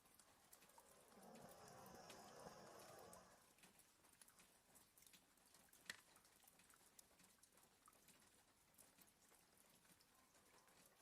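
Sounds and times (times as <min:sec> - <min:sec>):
faint rain tapping on a window: 0:00.0 - 0:11.0.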